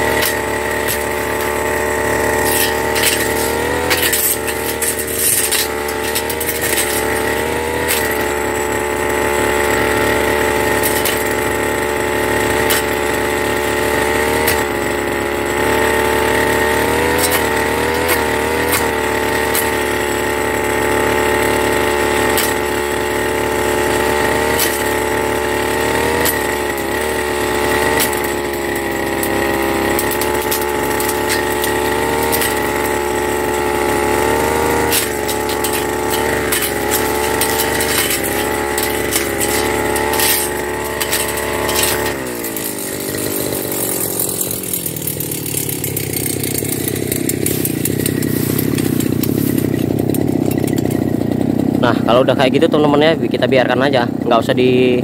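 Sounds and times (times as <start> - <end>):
blade cracking woody stems: 0.0 - 51.8
brush cutter engine running: 0.0 - 55.0.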